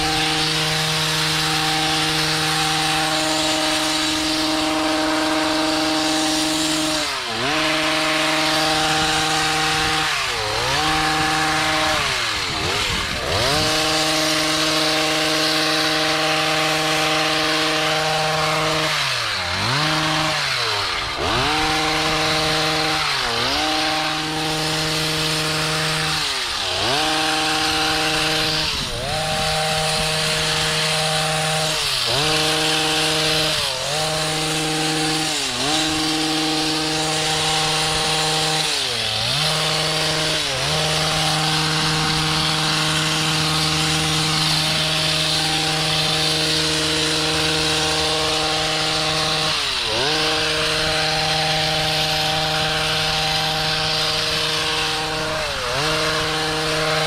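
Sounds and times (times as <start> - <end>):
hedge trimmer revving: 0.0 - 57.0.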